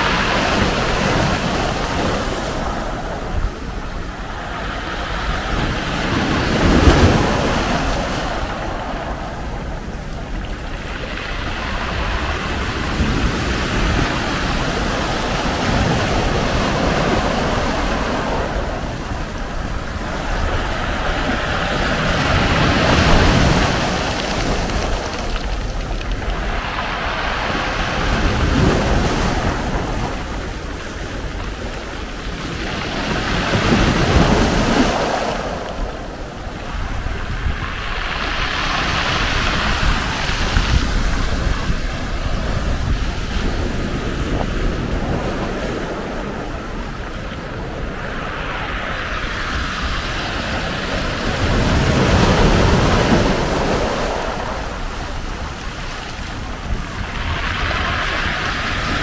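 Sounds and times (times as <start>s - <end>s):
waves on pebble beach: 0.0s - 59.0s
wind on the microphone: 0.0s - 59.0s.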